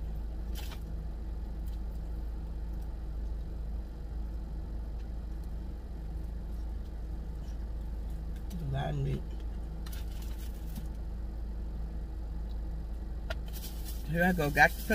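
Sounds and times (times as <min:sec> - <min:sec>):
car idling hum: 0:00.0 - 0:14.9.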